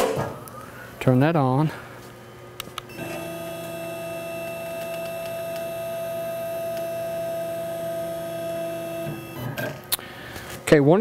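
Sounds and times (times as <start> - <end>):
electrical hum with high whine: 0.0 - 11.0.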